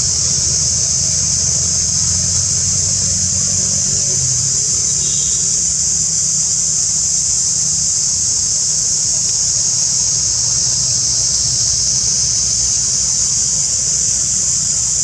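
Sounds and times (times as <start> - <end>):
low steady rumble: 0.0 - 7.2, 9.6 - 15.0
insects droning: 0.0 - 15.0.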